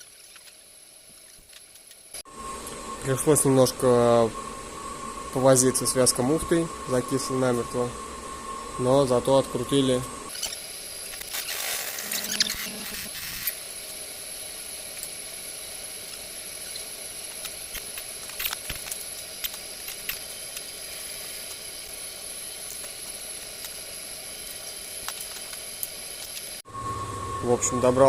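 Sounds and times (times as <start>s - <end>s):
thin high whine: 0.0s - 28.0s
steady background hiss: 0.1s - 28.0s.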